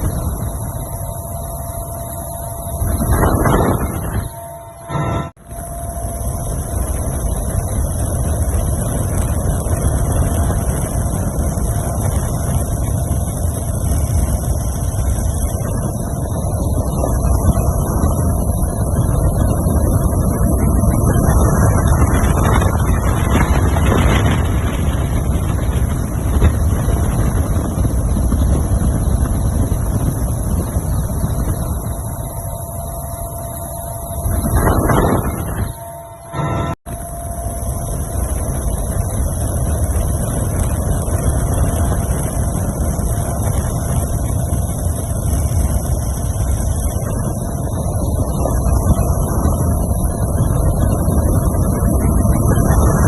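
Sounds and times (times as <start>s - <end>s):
loud low rumble: 0.0s - 53.0s
wind buffeting microphone: 0.0s - 53.0s.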